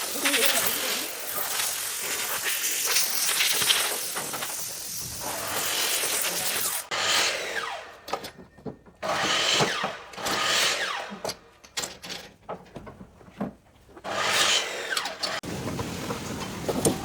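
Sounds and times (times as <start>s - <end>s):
power tool cutting wood: 0.0s - 8.4s, 9.0s - 11.6s, 14.0s - 17.0s.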